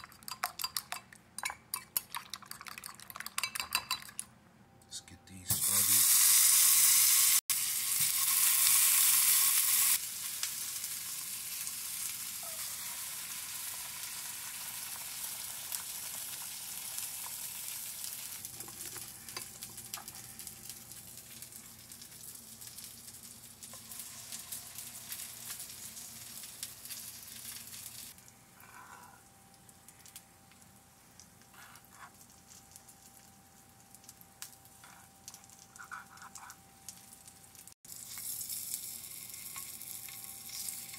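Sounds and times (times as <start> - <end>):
food sizzling in a pan: 5.5 - 40.9.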